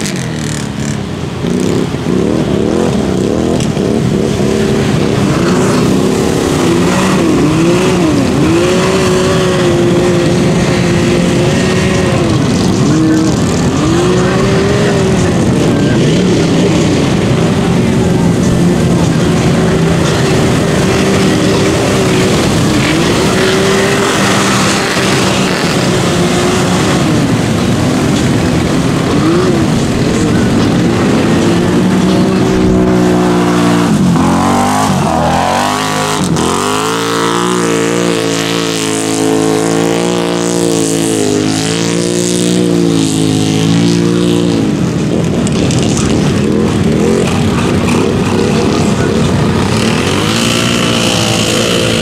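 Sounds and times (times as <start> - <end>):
engines revving in mud: 0.0 - 52.0.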